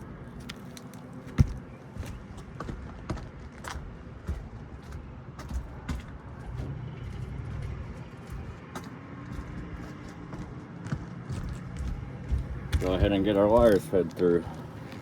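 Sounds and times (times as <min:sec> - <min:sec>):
low steady rumble: 0:00.0 - 0:13.2.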